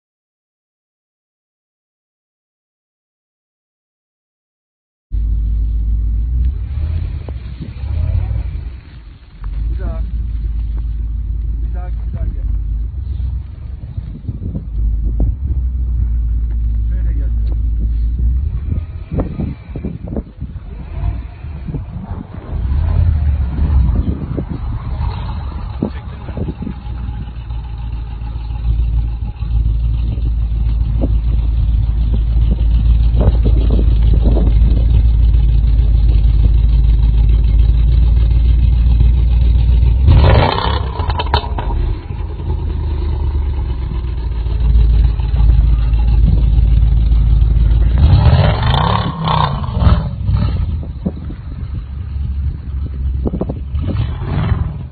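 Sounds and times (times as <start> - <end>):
heavy low rumble: 5.1 - 54.9
car engine revving under load: 5.2 - 54.9
wheels spinning through deep snow: 5.3 - 54.9.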